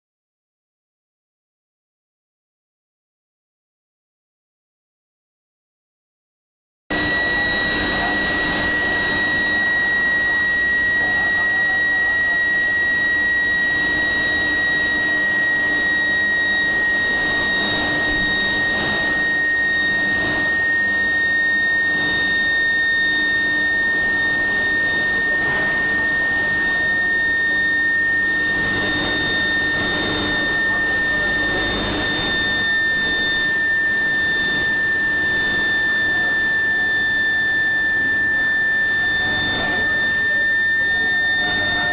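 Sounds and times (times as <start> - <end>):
high-pitched furnace whine: 6.9 - 41.9.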